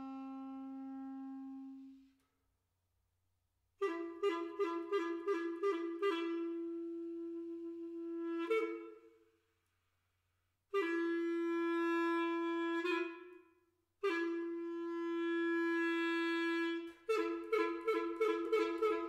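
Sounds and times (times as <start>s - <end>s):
solo clarinet playing: 0.0s - 2.1s, 3.8s - 9.0s, 10.7s - 19.0s.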